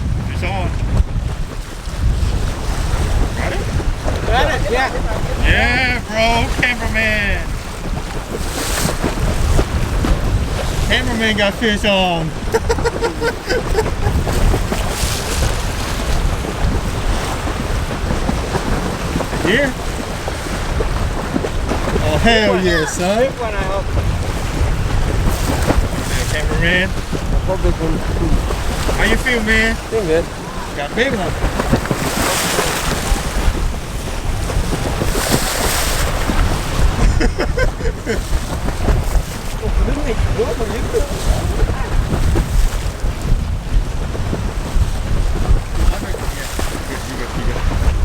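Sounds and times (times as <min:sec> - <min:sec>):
waves washing against shore: 0:00.0 - 0:48.0
wind buffeting microphone: 0:00.0 - 0:48.0.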